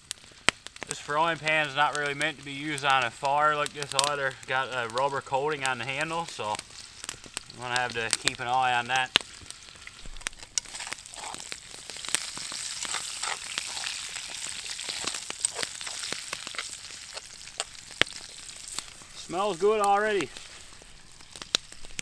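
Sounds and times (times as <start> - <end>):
potatoes sizzling in oil: 0.0 - 22.0.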